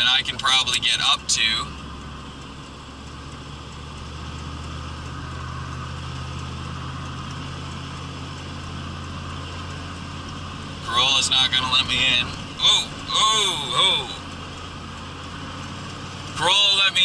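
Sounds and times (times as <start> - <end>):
car engine hum: 0.0 - 17.0
tyre and road noise: 0.0 - 17.0.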